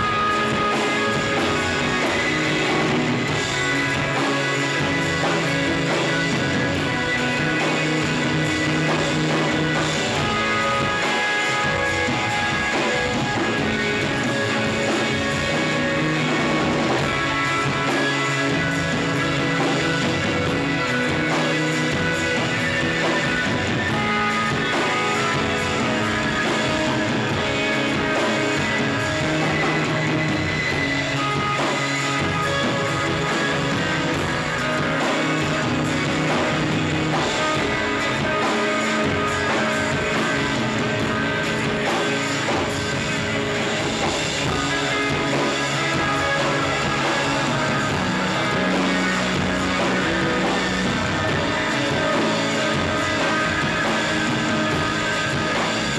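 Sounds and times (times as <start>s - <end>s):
live rock band playing: 0.0s - 55.9s.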